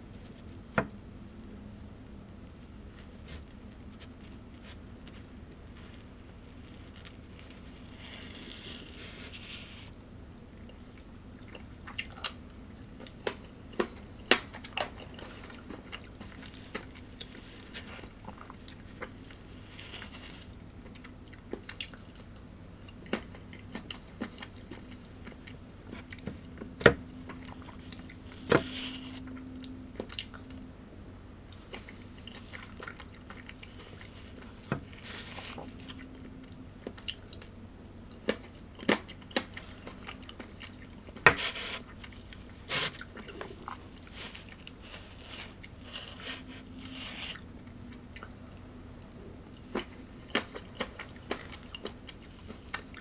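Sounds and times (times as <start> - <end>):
person chewing food: 2.9 - 30.8, 31.4 - 53.0.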